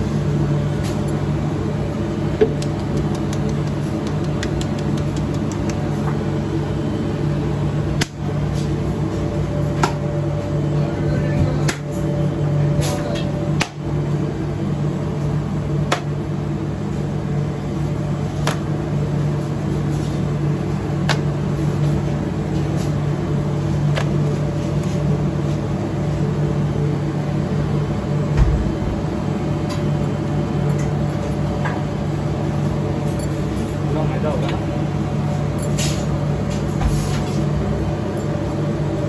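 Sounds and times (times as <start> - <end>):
kitchen mechanical hum: 0.0 - 39.0.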